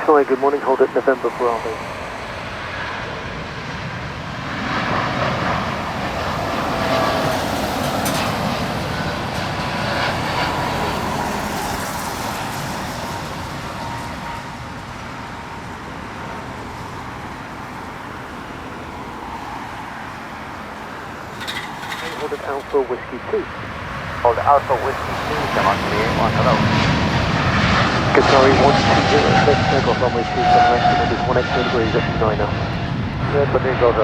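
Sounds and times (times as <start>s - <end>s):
faint engine whine: 0.0s - 34.0s
jet engines roaring on takeoff: 0.0s - 34.0s.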